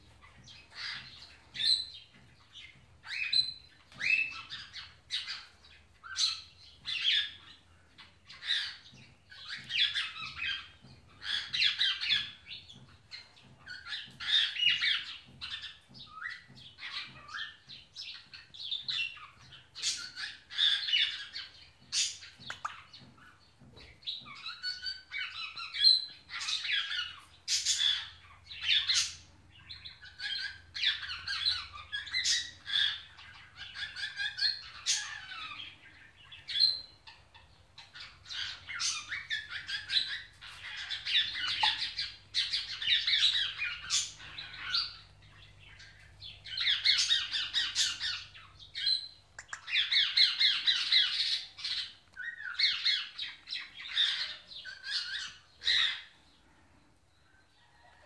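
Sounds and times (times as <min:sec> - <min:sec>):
parrots chattering and squawking: 0:00.1 - 0:56.4.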